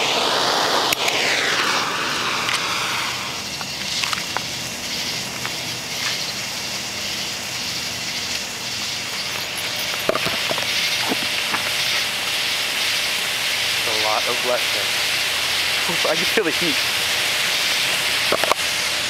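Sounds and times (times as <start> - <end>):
blowtorch flame hissing: 0.0 - 19.0.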